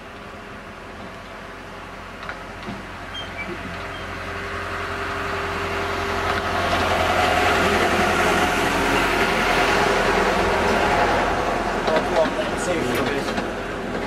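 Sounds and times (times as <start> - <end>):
rail rumble: 0.0 - 14.0
train engine hum: 0.0 - 14.0.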